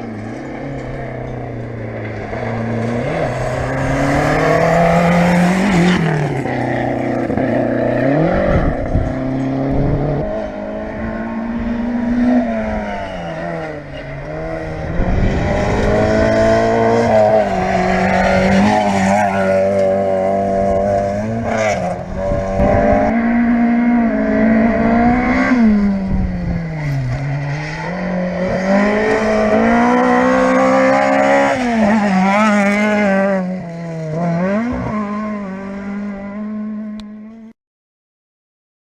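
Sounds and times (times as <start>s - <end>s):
rally car engine revving: 0.0s - 37.5s.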